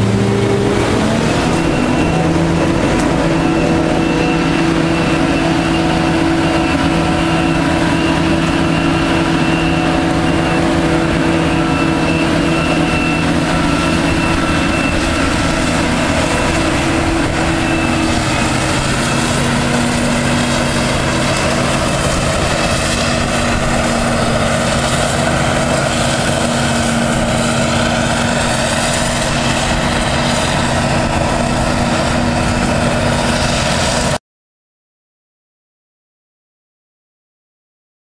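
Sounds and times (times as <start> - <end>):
heavy diesel farm machinery running: 0.0 - 34.2.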